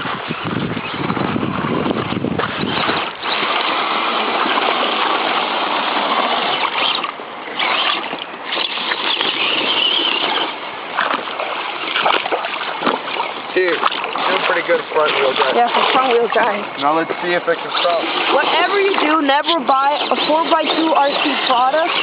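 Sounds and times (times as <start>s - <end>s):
water splashing and rushing: 0.0s - 22.0s.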